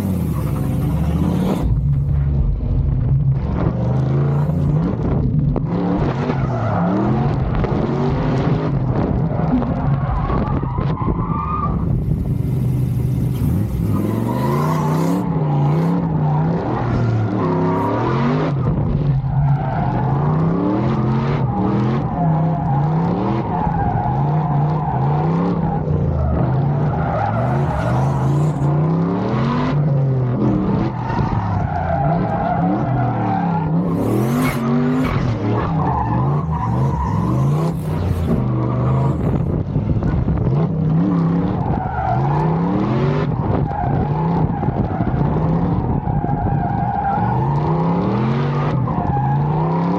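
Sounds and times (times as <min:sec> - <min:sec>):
tires squealing: 0:00.0 - 0:02.5, 0:03.3 - 0:49.9
truck engine revving: 0:00.0 - 0:11.1, 0:11.8 - 0:49.9.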